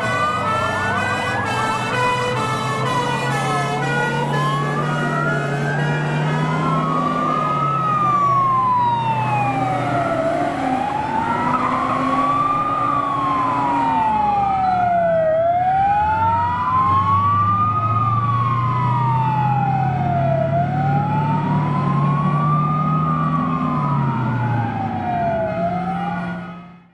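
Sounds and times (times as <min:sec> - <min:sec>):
emergency sirens wailing: 0:00.0 - 0:26.9
heavy truck engines droning: 0:00.0 - 0:26.9.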